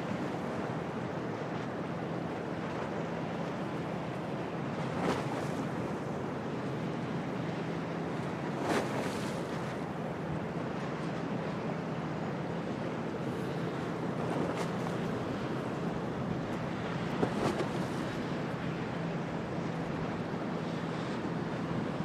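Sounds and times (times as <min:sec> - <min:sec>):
waves breaking: 0:00.0 - 0:22.0.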